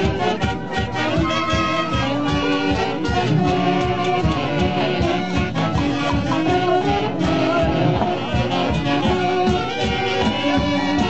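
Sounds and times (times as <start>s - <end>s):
saxophones playing dance tune: 0.0s - 11.0s
steady drum beat: 0.0s - 11.0s.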